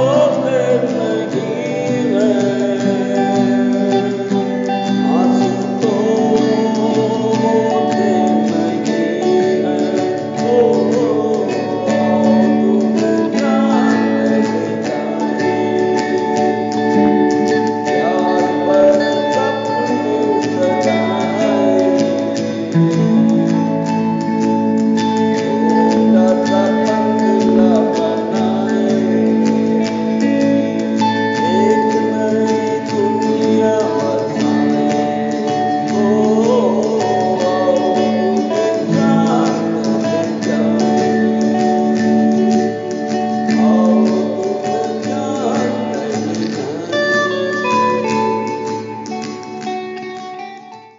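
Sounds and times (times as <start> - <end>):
acoustic guitar strumming: 0.0 - 50.9
electric lead guitar: 0.0 - 50.9
person singing: 0.0 - 50.9.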